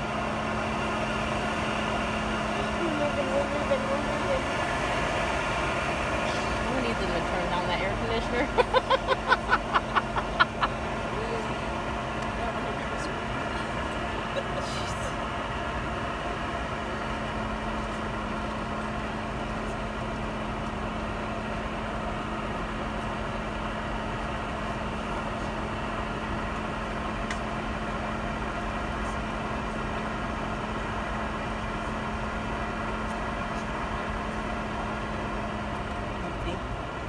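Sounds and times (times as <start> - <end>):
airliner cabin engine noise: 0.0 - 37.0
constant low hum: 0.0 - 37.0.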